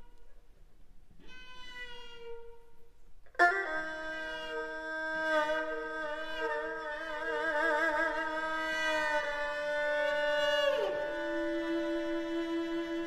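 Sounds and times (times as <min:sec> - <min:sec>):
erhu: 0:00.0 - 0:00.4, 0:01.2 - 0:13.0
cello: 0:01.2 - 0:13.0.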